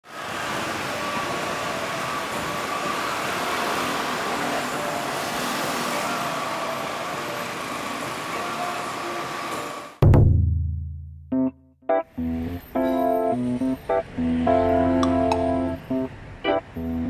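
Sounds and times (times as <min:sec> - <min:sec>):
road traffic passing: 0:00.0 - 0:10.0, 0:12.2 - 0:17.0.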